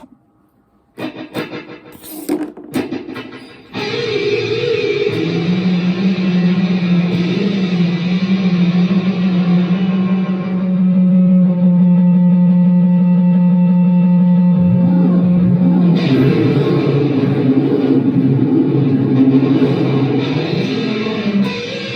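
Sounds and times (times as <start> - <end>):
low guitar note with effects: 2.8 - 21.9.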